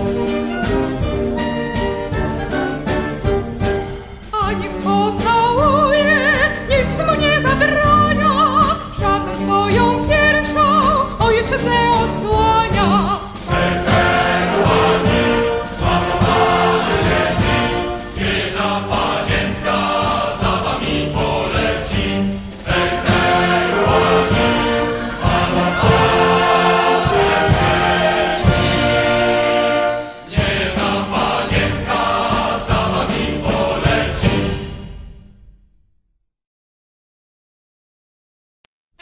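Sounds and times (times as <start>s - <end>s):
choir with instrumental accompaniment: 0.0s - 35.3s.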